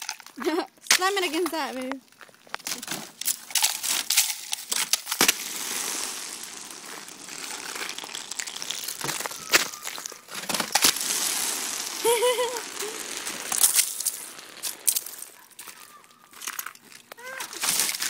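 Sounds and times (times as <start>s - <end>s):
ice cracking and crunching: 0.0s - 18.0s.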